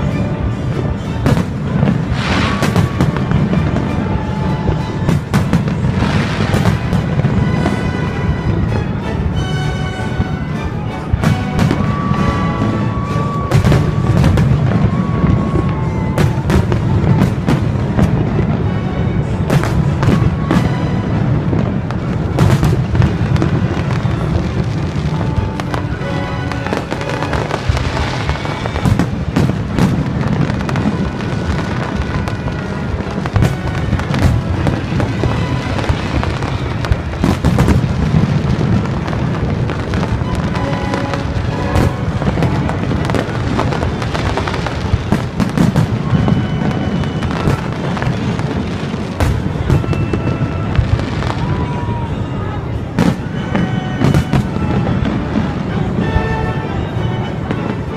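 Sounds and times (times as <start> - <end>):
fireworks bangs and crackles: 0.0 - 57.9
low rumble of explosions: 0.0 - 57.9
music playing: 0.0 - 57.9.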